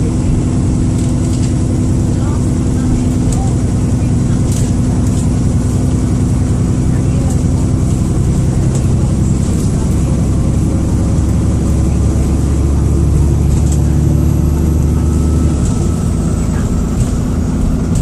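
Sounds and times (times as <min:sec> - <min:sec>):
bus diesel engine under load: 0:00.0 - 0:18.0.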